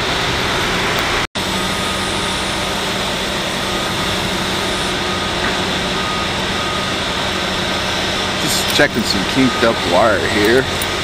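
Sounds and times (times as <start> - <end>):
engine humming with hiss: 0.0 - 11.0.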